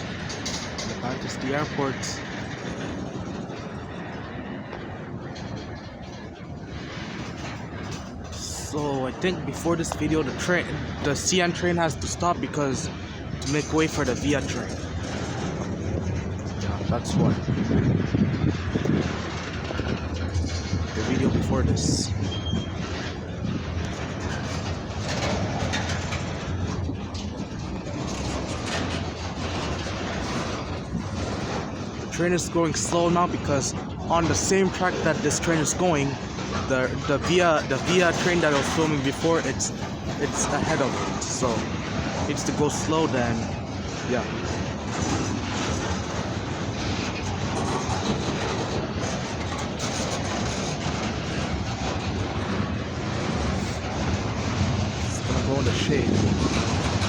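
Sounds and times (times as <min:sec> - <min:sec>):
freight train rumbling: 0:00.0 - 0:57.0
train wheels clicking: 0:00.0 - 0:57.0.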